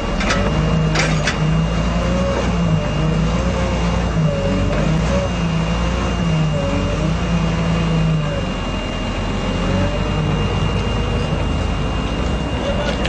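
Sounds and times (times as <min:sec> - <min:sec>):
heavy equipment engine running: 0:00.0 - 0:13.0
high whine: 0:00.0 - 0:13.0.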